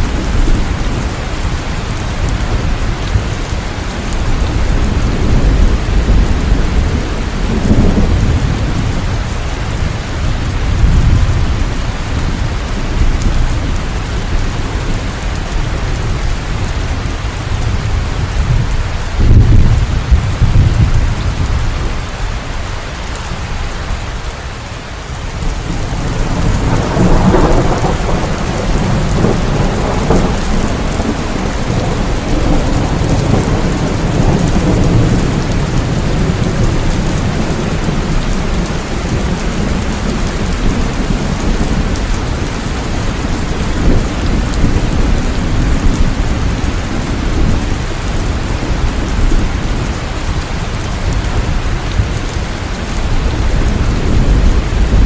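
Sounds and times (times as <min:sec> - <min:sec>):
deep rolling thunder: 0:00.0 - 0:22.2, 0:25.4 - 0:55.0
heavy rain: 0:00.0 - 0:55.0.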